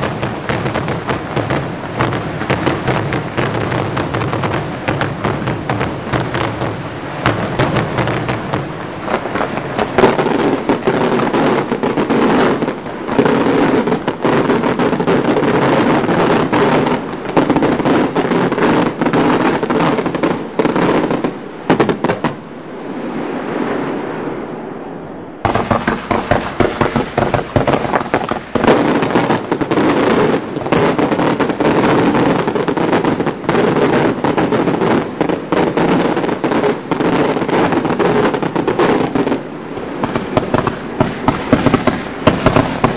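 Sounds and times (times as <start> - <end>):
firework bangs and crackles: 0.0 - 24.2, 25.4 - 42.9.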